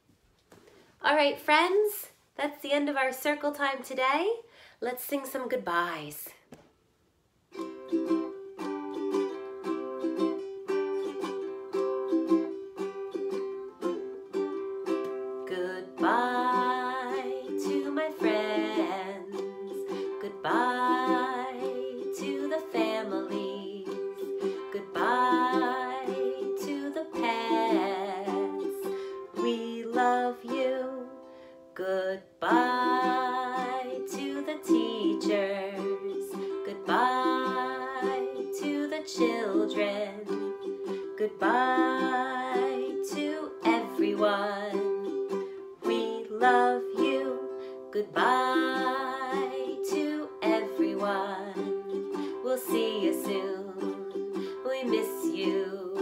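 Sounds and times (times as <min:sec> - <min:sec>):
woman singing wordless phrases: 0:01.0 - 0:06.4, 0:15.4 - 0:45.2, 0:45.8 - 0:56.0
ukulele strumming: 0:07.5 - 0:56.0.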